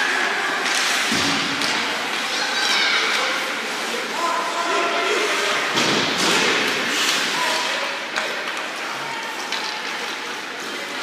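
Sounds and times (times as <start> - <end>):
hockey sticks and puck clacking: 0.5 - 4.1, 5.4 - 11.0
skates scraping ice: 0.5 - 11.0.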